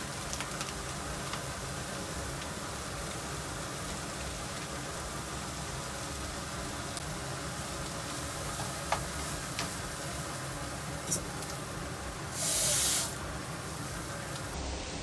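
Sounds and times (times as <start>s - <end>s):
rice sizzling in a frying pan: 0.0s - 15.0s.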